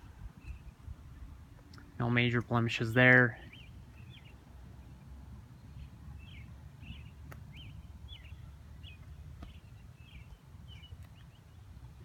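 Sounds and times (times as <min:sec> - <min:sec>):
bird chirping: 0:00.4 - 0:01.9, 0:02.5 - 0:12.0.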